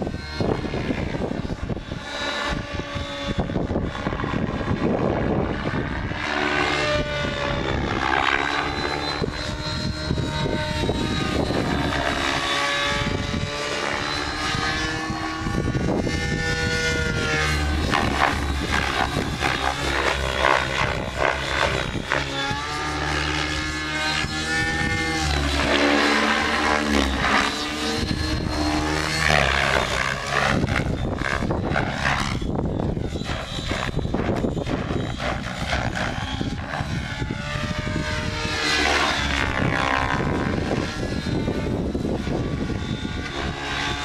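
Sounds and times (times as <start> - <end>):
rc helicopter rotor whine: 0.0 - 44.0.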